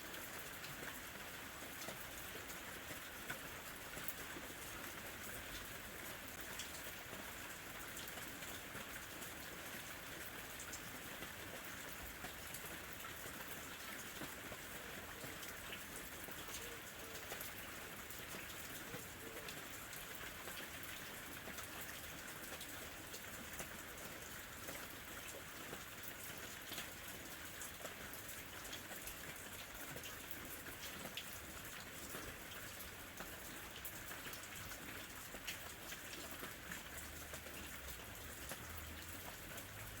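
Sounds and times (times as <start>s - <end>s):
gentle rain falling: 0.0s - 40.0s
rain drops ticking: 0.0s - 40.0s.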